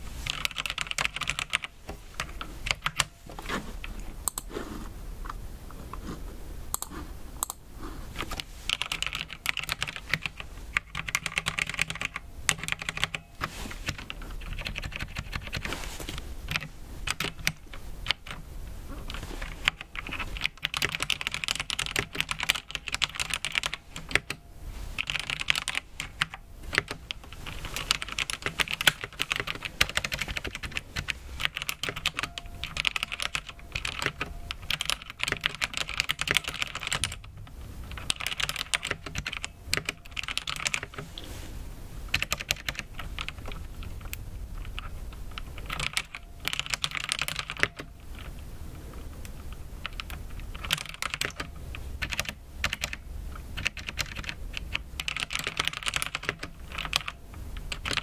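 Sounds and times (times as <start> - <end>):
mechanical keyboard typing: 0.2 - 3.2, 8.2 - 15.7, 16.5 - 18.4, 19.0 - 24.4, 25.0 - 41.0, 42.1 - 48.4, 49.8 - 58.0.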